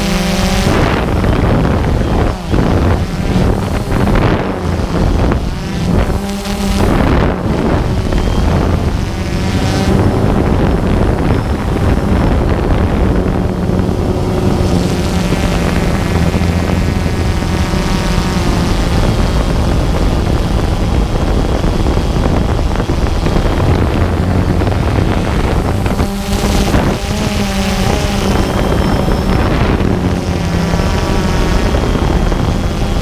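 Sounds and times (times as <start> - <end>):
drone propellers buzzing: 0.0 - 33.0
wind buffeting microphone: 0.0 - 33.0.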